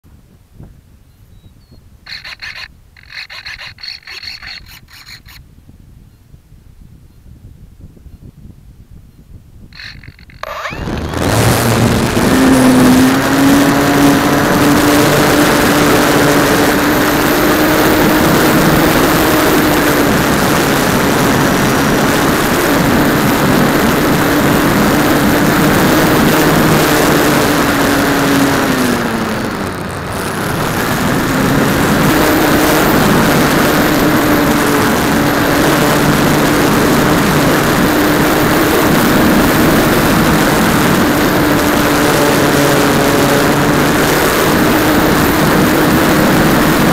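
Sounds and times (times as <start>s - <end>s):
rushing wind noise: 0.1s - 46.9s
electric motor and propeller hum: 2.1s - 5.4s, 9.7s - 46.9s.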